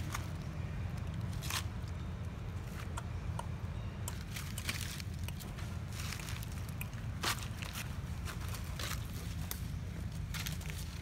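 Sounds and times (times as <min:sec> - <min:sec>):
footsteps on dry leaves: 0:00.0 - 0:02.7, 0:04.1 - 0:11.0.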